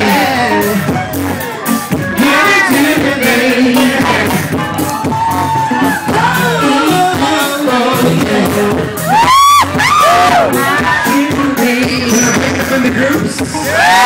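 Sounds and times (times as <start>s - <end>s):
person singing into a microphone: 0.0s - 5.1s, 5.7s - 14.0s
band playing: 0.0s - 14.0s.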